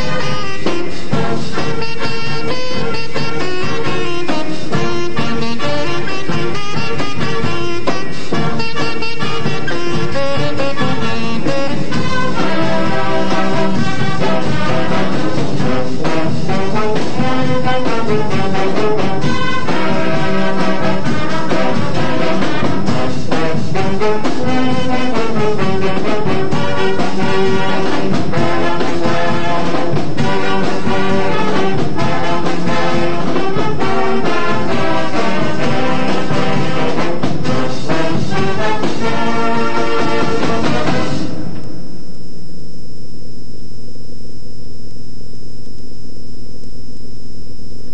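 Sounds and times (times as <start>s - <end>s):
marching band brass playing: 0.0s - 41.6s.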